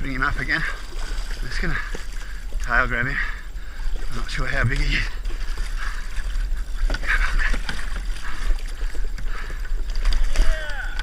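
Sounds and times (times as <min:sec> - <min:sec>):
water splashing and sloshing: 0:00.0 - 0:11.0
wind rumbling on microphone: 0:00.0 - 0:11.0.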